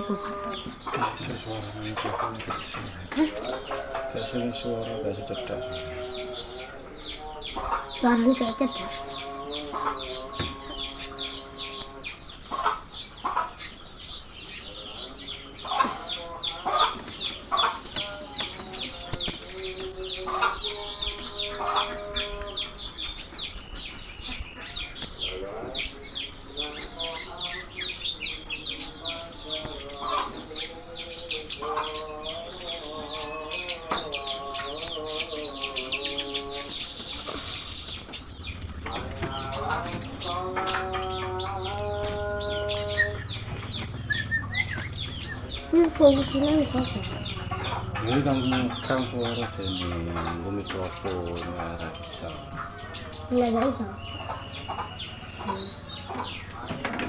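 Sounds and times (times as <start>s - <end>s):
songbird chattering song: 0.0s - 57.0s
wavering clucking calls: 0.0s - 57.0s.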